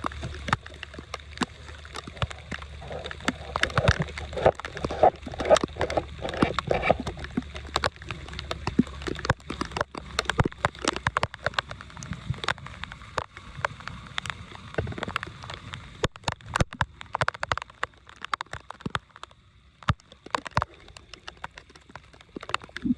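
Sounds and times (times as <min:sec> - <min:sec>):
water sloshing and gurgling: 0:00.0 - 0:22.9.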